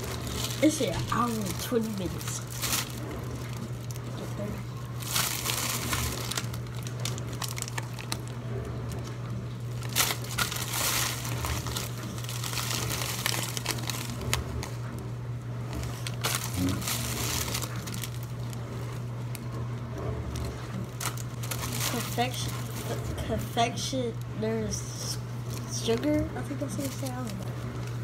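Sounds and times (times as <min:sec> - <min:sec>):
paper and plastic crinkling: 0:00.0 - 0:15.0, 0:15.7 - 0:19.6, 0:20.3 - 0:24.0, 0:25.0 - 0:28.0
low hum: 0:00.0 - 0:28.0.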